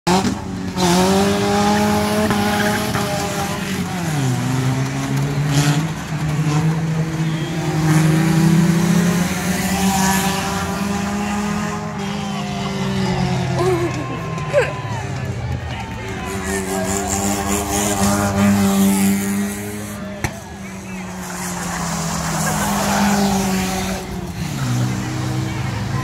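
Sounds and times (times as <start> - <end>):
racing car engines: 0.0 - 26.0.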